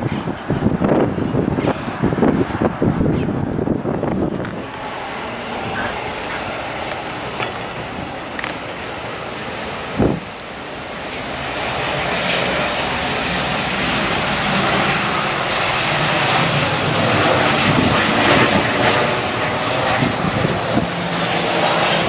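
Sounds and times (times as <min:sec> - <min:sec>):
jet engines rushing: 0:00.0 - 0:22.0
high whine falling in pitch: 0:02.2 - 0:22.0.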